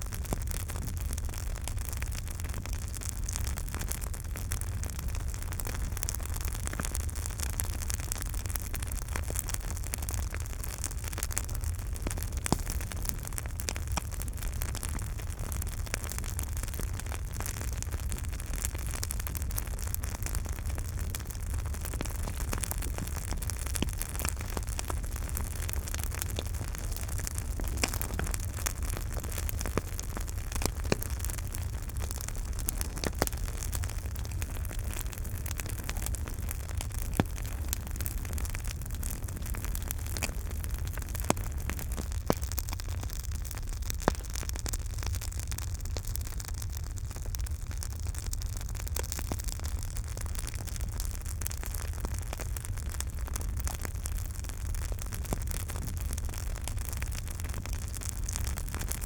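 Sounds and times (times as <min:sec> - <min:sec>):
campfire rumble and hiss: 0:00.0 - 0:59.0
wood crackling and popping: 0:00.0 - 0:59.0.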